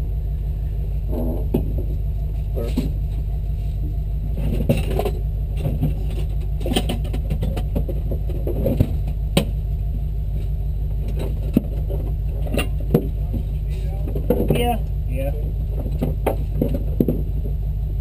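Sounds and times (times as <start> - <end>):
engine idling: 0.0 - 18.0
sharp knocks and rattles: 1.1 - 3.4, 4.2 - 9.7, 10.4 - 17.6.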